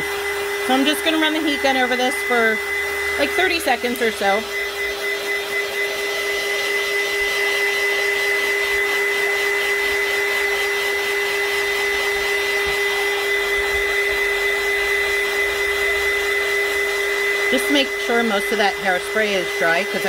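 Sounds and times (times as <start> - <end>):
heat gun fan whirring: 0.0 - 20.0.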